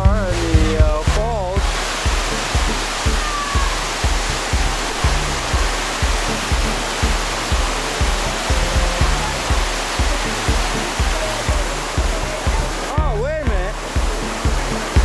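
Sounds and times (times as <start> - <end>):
music with bass-heavy beat: 0.0 - 15.0
waterfall rushing and splashing: 0.0 - 15.0.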